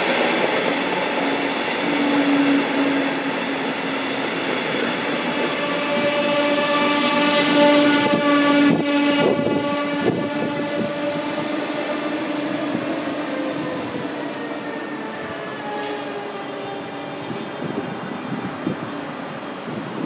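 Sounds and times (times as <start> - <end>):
electric train whine: 0.0 - 20.0.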